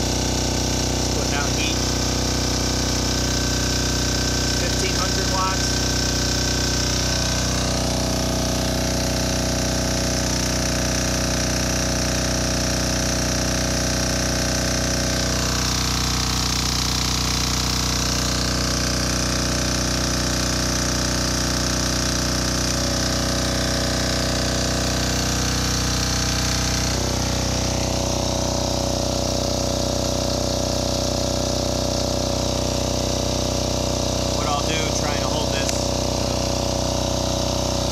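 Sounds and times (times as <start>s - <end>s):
diesel generator running: 0.0s - 37.9s.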